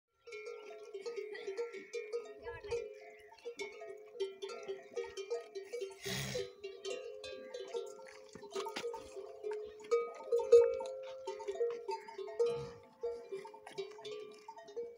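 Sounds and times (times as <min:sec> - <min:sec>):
metal neck bells clanking: 0:00.2 - 0:14.9.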